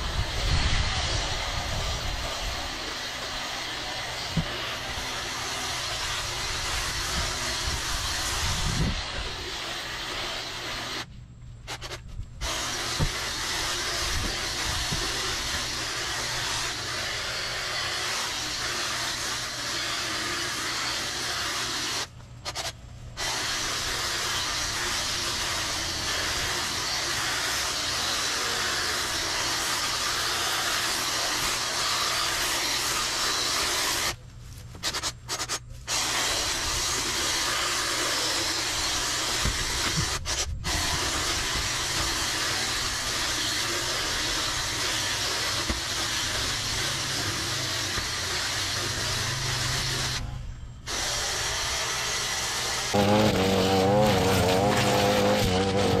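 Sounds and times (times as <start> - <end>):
power equipment rushing hiss: 0.0 - 34.2, 34.8 - 56.0.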